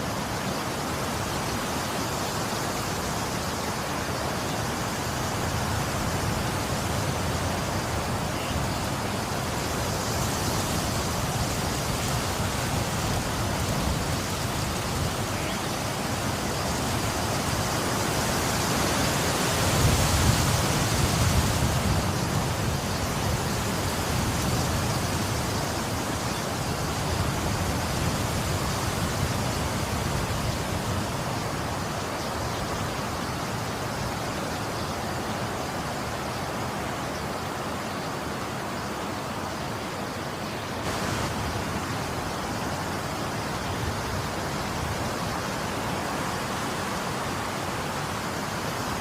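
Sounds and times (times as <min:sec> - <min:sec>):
steady rainfall: 0:00.0 - 0:49.0.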